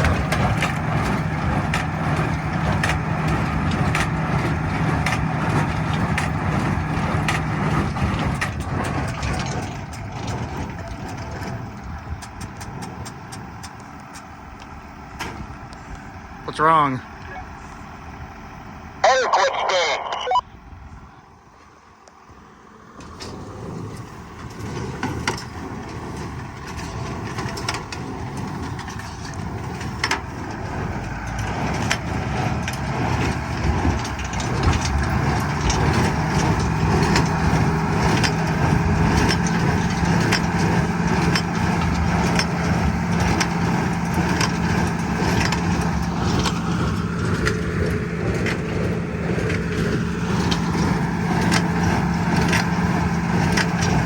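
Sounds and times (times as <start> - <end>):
sharp clicks and knocks: 0.0 - 14.3, 24.0 - 54.0
hay baler working: 0.0 - 20.4, 22.2 - 54.0
tractor engine running: 0.0 - 54.0.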